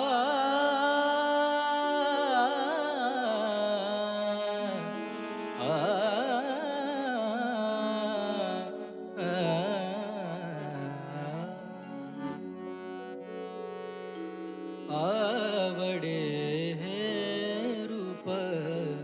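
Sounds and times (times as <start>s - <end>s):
ornamented devotional melody: 0.0s - 19.0s.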